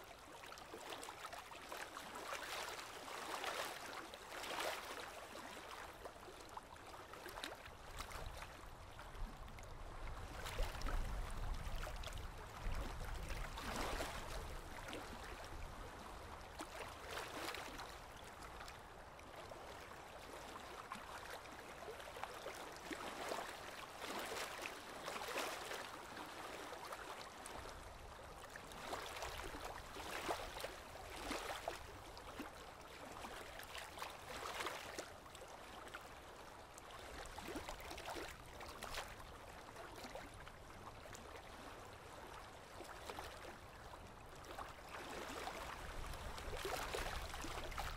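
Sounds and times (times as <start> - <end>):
waves lapping against stones: 0.1 - 47.9.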